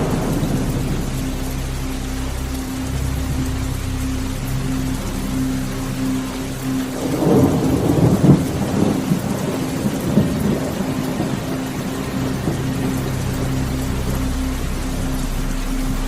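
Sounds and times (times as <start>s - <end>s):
deep rumble: 0.0s - 16.0s
low steady hum: 0.0s - 16.0s
rain on a car: 0.0s - 16.0s.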